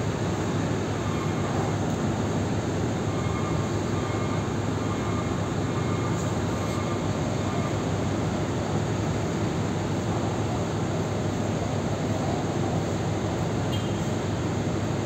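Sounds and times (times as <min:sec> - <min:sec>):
diesel engines droning: 0:00.0 - 0:15.0.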